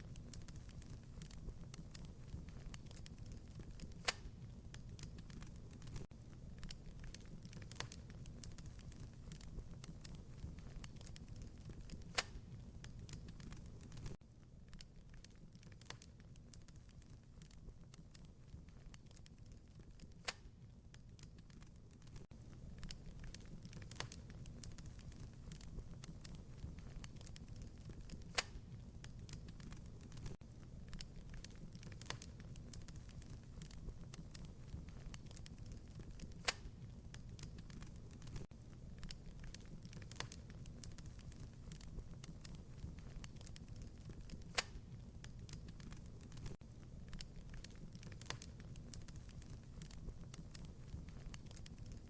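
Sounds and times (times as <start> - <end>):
fire popping: 0.0 - 52.0
wood fire crackling: 0.0 - 52.0.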